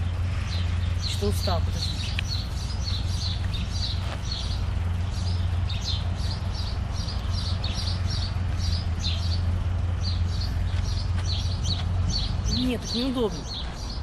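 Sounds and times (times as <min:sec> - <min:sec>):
small bird chirping: 0:00.0 - 0:14.0.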